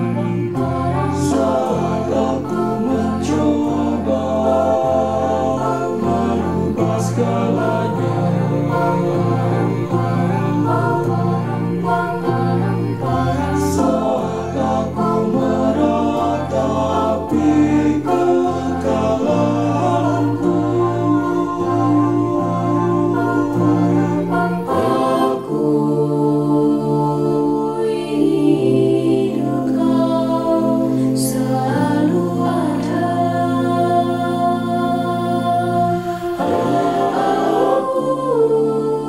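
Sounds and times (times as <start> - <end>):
mixed choir singing: 0.0 - 39.0.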